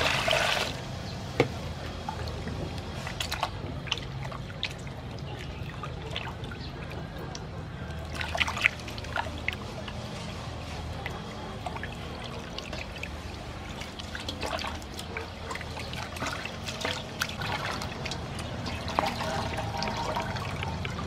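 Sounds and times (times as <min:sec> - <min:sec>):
water streaming into basin: 0:00.0 - 0:00.9, 0:01.8 - 0:21.0
water splashing in metal basin: 0:00.0 - 0:01.0, 0:01.6 - 0:21.0.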